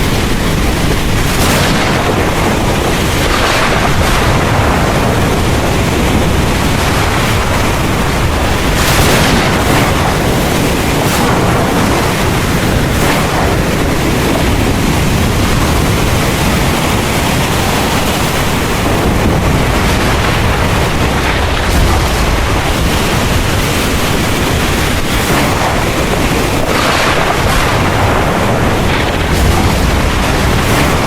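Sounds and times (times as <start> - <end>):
heavy rain pouring: 0.0 - 31.0
low thunder rumble: 0.0 - 31.0.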